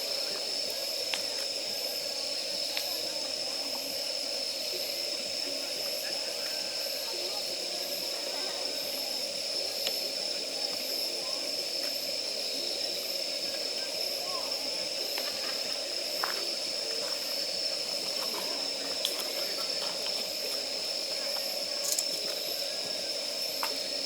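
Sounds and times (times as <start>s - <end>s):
fire hiss: 0.0s - 24.0s
campfire crackles: 0.1s - 24.0s.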